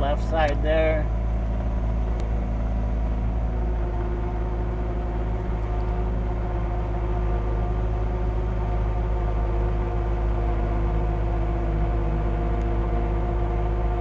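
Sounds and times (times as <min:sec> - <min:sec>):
steady mechanical whine: 0:00.0 - 0:14.0
track loader diesel engine: 0:00.0 - 0:14.0.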